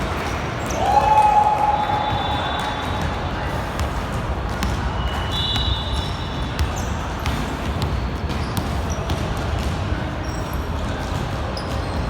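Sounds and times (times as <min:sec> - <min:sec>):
sneaker squeaks: 0:00.2 - 0:12.0
basketball bouncing on court: 0:02.0 - 0:12.0.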